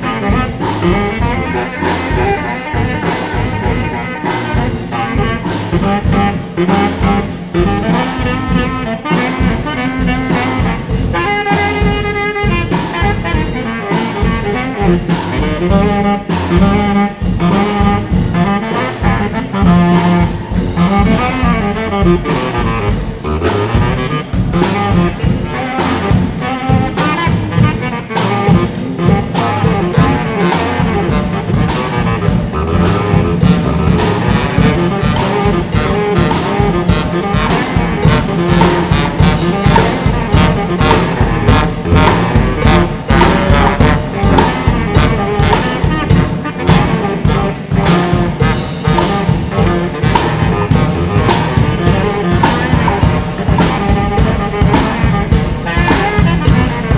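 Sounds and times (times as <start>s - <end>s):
brass band playing jazz: 0.0s - 56.9s.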